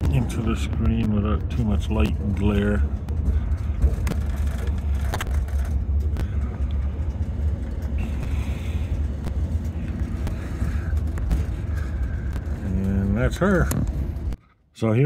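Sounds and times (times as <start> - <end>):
train rumble: 0.0 - 14.4.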